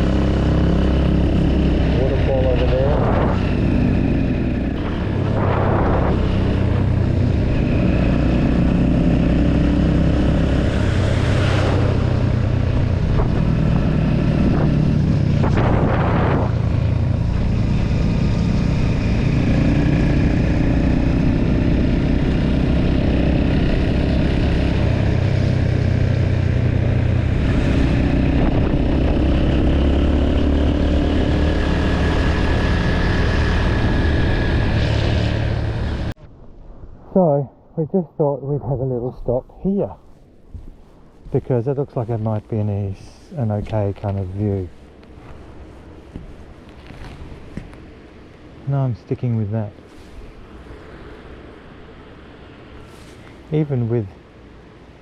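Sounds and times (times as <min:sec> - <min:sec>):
wind rushing on microphone: 0:00.0 - 0:48.7.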